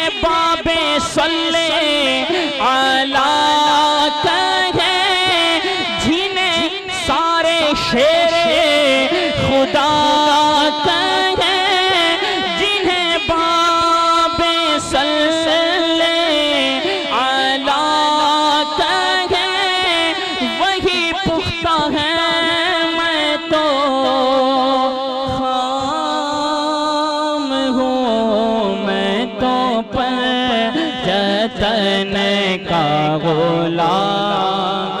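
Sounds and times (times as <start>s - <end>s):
man singing through microphone: 0.0s - 35.0s.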